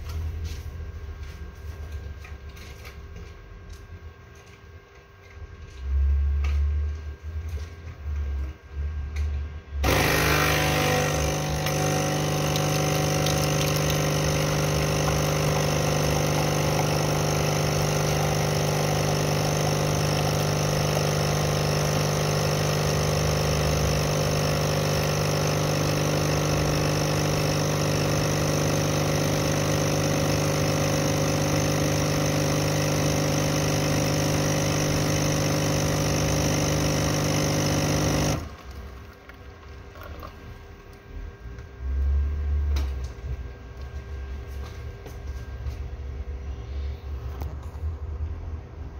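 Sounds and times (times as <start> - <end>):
coffee machine pump humming: 0.0 - 48.9.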